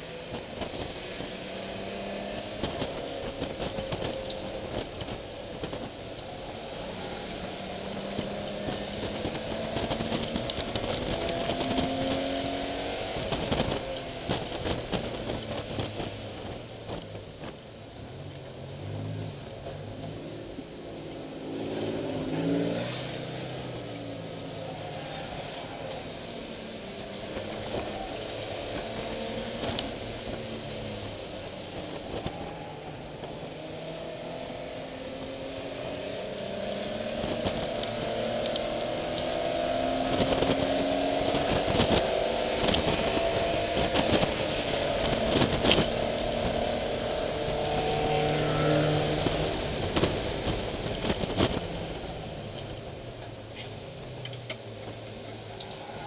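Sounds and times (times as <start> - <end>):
racing car engine: 0.0 - 56.0.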